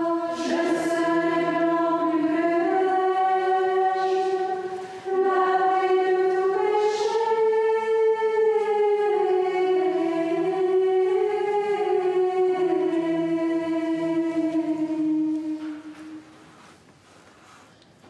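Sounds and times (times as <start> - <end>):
choir chanting: 0.0 - 16.3.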